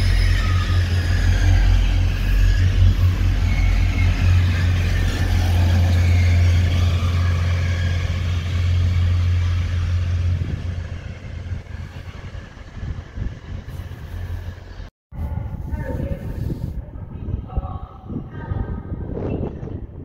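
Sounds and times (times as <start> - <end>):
diesel train engine rumble: 0.0 - 17.4.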